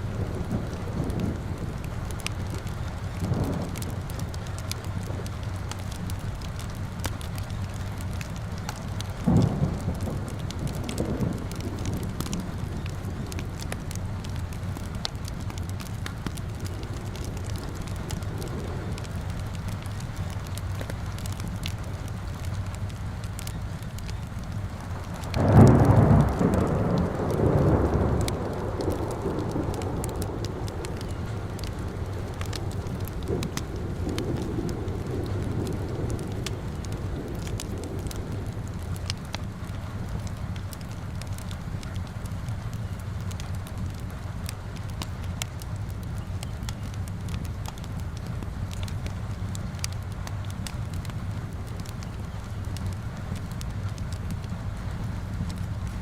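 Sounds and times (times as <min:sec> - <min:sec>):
thunder rumbling: 0:00.0 - 0:45.0
steady rain: 0:00.0 - 0:56.0
wood fire crackling: 0:00.0 - 0:56.0.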